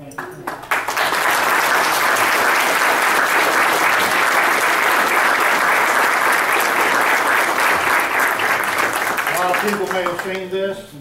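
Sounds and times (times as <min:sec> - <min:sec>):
people clapping: 0:00.0 - 0:10.6.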